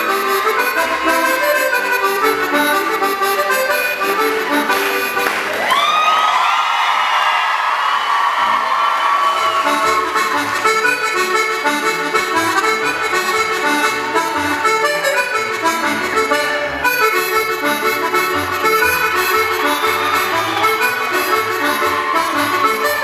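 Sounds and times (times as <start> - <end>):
accordion dance music: 0.0 - 5.8, 9.4 - 23.0.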